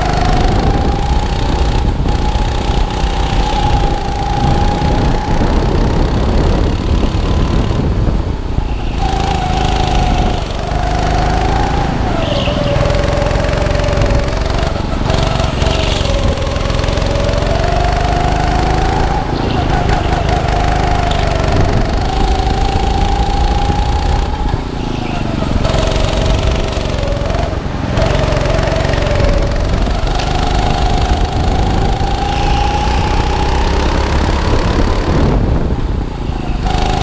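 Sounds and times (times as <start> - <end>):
go-kart engine revving: 0.0 - 37.0
rumble of tyres and chassis: 0.0 - 37.0.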